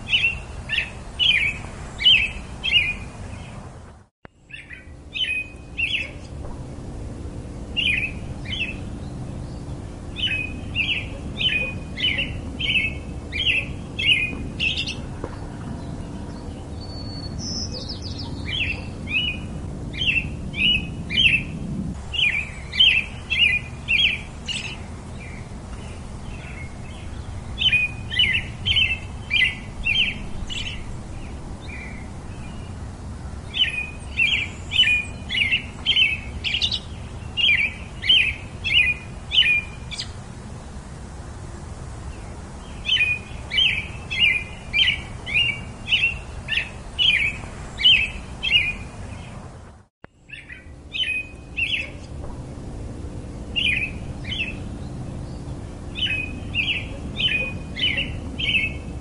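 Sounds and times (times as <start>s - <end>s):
robin singing chirping notes: 0.0s - 3.6s, 4.3s - 6.4s, 7.6s - 40.2s, 42.1s - 49.3s, 50.1s - 52.2s, 53.3s - 59.0s.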